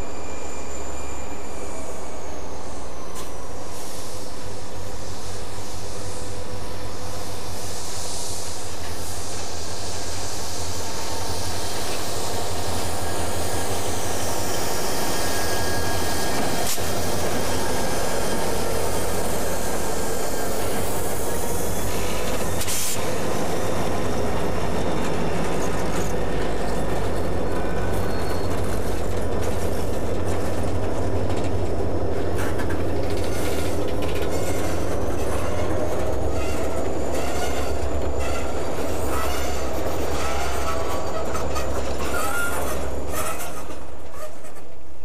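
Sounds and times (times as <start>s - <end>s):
train wheels squealing: 0.0s - 31.2s, 32.4s - 44.7s
freight train rumble: 0.0s - 45.0s.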